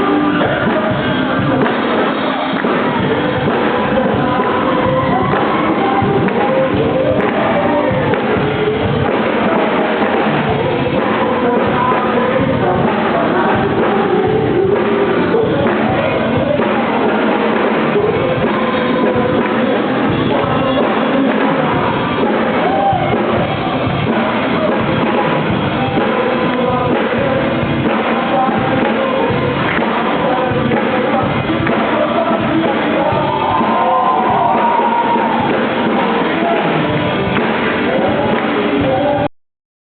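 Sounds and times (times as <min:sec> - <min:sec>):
drums: 0:00.0 - 0:39.3
guitar: 0:00.0 - 0:39.3
person singing: 0:00.0 - 0:39.3.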